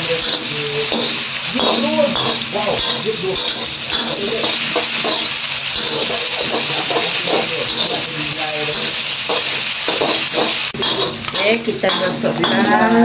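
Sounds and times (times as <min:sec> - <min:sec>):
paste sizzling in hot oil: 0:00.0 - 0:13.0
spatula scraping wok: 0:00.0 - 0:13.0.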